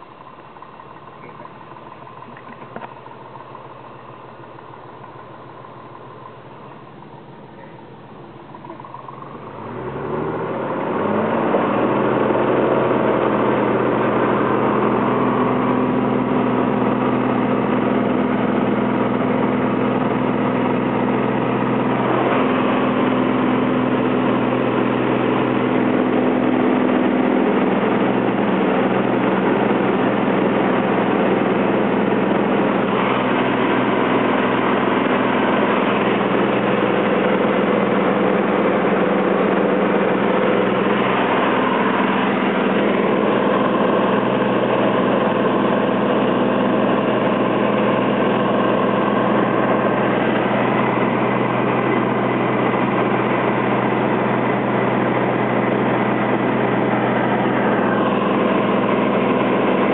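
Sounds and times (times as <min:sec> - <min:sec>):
propeller plane engine at full power: 0:00.0 - 0:59.9.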